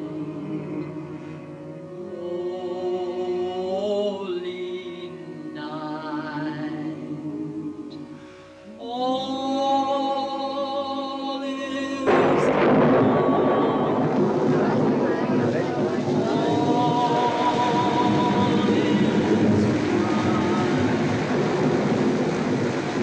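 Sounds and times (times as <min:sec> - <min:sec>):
woman singing operatically: 0:00.0 - 0:01.2, 0:01.9 - 0:08.0, 0:08.7 - 0:21.5
keyboard accompaniment: 0:00.0 - 0:23.0.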